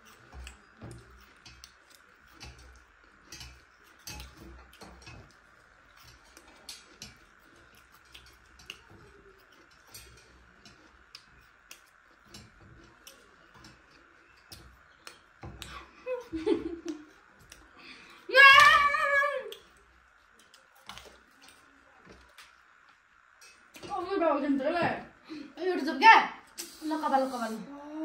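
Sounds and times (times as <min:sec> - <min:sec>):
people chewing and eating: 0:00.0 - 0:24.2
faint steady hum: 0:00.0 - 0:28.0.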